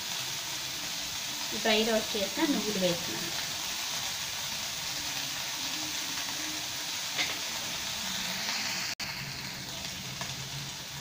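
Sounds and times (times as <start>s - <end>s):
stir-fry sizzling in a wok: 0.0s - 11.0s.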